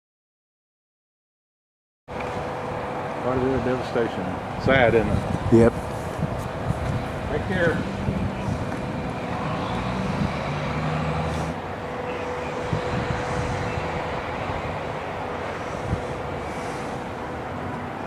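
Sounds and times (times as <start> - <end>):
outdoor rumble: 2.1 - 18.0
vehicle engine running: 2.1 - 18.0.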